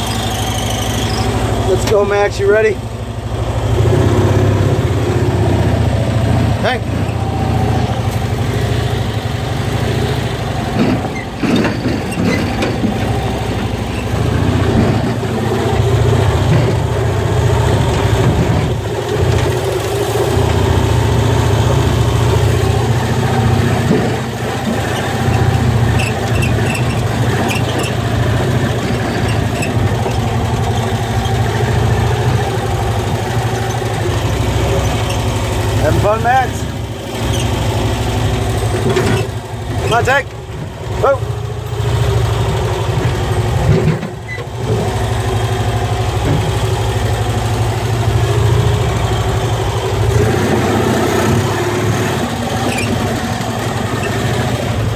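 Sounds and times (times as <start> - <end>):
small engine running: 0.0 - 54.9.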